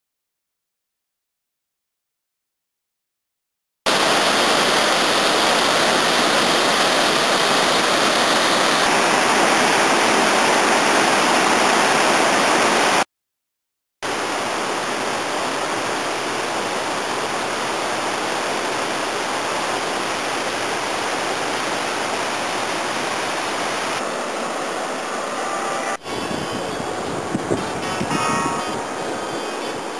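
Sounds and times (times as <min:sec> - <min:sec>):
rushing water roar: 0:03.9 - 0:13.0, 0:14.1 - 0:29.9.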